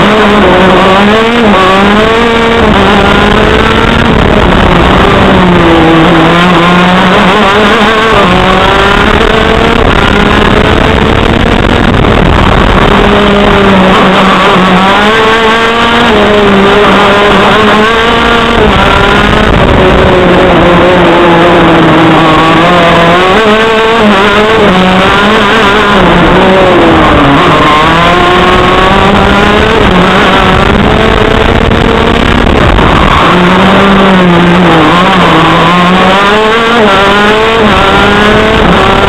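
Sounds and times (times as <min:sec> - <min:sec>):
kart engine revving: 0:00.0 - 0:39.0.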